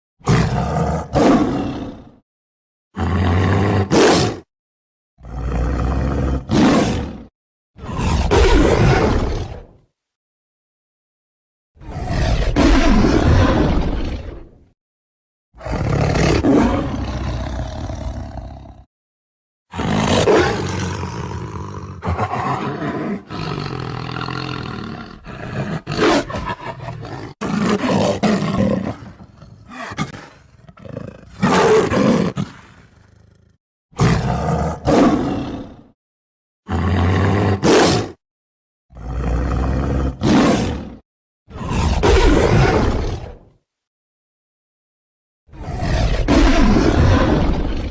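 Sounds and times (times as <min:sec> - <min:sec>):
tiger roaring and growling: 0:00.2 - 0:02.2, 0:03.0 - 0:04.5, 0:05.2 - 0:09.9, 0:11.8 - 0:14.7, 0:15.6 - 0:18.9, 0:19.7 - 0:36.0, 0:36.7 - 0:38.2, 0:38.9 - 0:43.6, 0:45.5 - 0:47.9.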